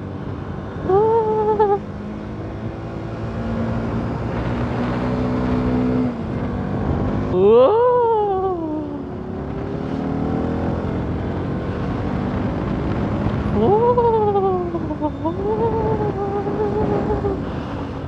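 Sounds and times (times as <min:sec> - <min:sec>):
motorcycle engine revving: 0:01.6 - 0:07.4, 0:09.0 - 0:18.0.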